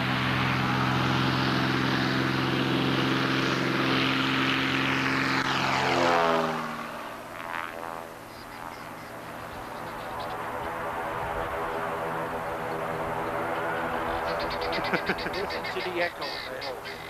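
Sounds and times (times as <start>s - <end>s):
propeller plane passing: 0.0s - 17.0s.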